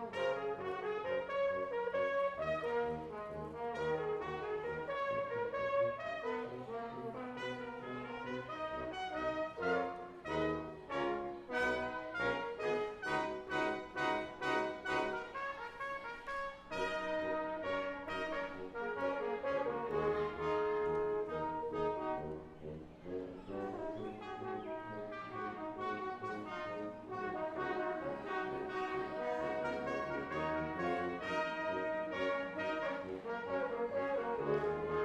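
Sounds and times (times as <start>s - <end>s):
brass quintet playing: 0.0s - 35.0s.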